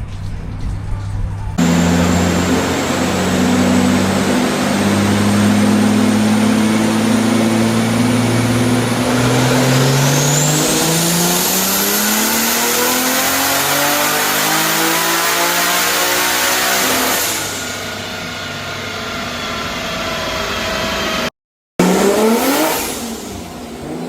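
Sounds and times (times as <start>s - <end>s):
car engine under load: 0.0s - 24.0s.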